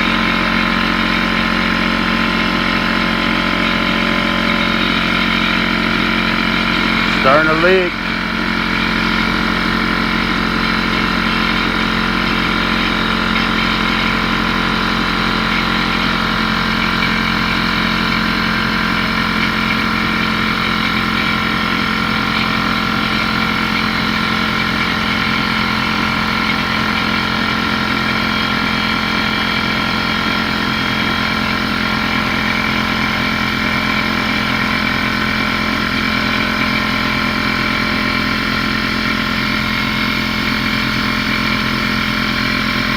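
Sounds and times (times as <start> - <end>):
air compressor running: 0.0 - 42.9.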